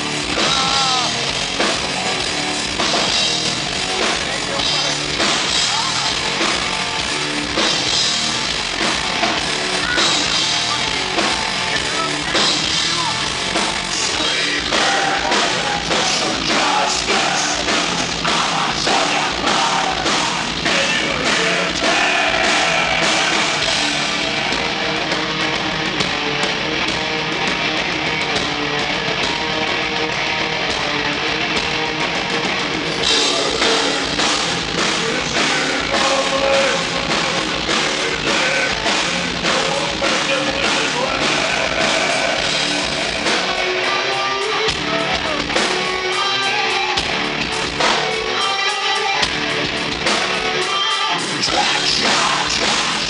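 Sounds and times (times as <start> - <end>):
distorted electric guitar: 0.0 - 53.0
drum kit beat: 0.0 - 53.0.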